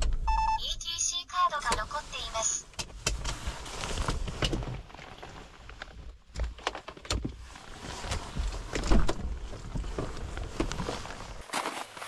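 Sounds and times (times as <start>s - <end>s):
rustling: 1.9s - 12.0s.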